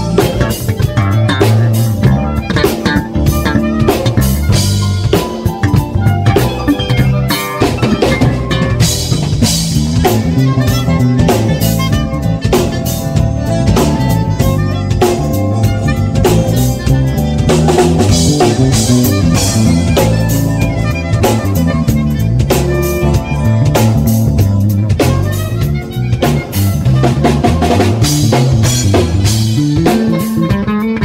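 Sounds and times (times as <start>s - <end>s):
bass guitar line: 0.0s - 31.0s
drum kit beat: 0.0s - 31.0s
live band playing: 0.0s - 31.0s.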